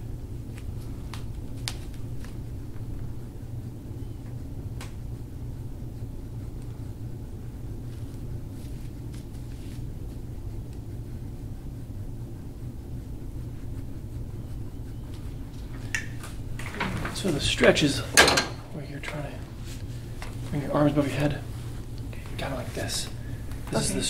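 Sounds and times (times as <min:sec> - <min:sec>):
low room rumble: 0:00.0 - 0:24.0.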